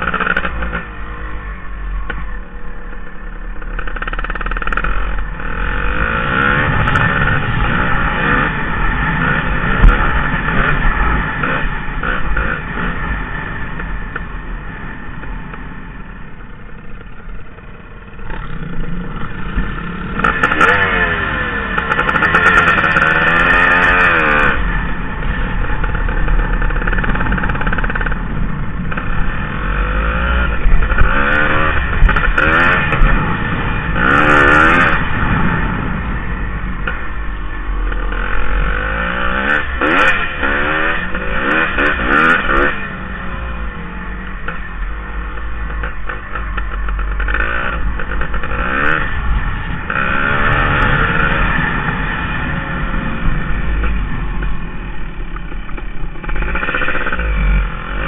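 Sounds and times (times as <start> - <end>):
dirt bike engine revving: 0.0 - 1.5, 3.6 - 15.9, 17.0 - 58.0.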